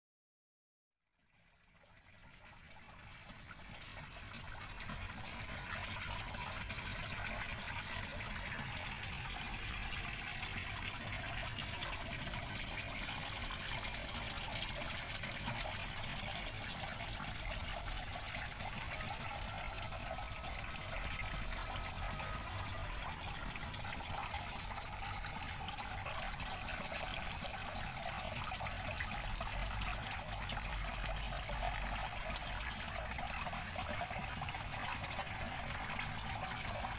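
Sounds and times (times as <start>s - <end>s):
water running and trickling: 1.3s - 36.9s.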